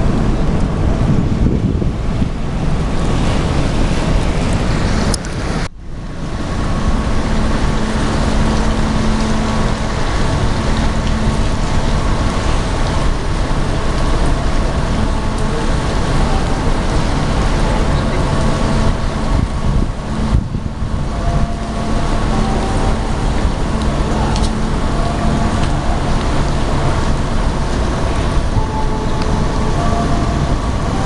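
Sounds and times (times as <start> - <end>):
ship engine drone: 0.0 - 31.0
wind on microphone: 0.0 - 31.0.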